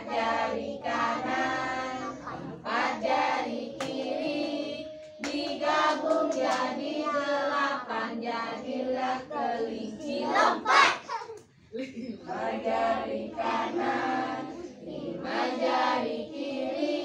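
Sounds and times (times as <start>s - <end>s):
children singing together: 0.0s - 11.3s, 12.3s - 17.0s.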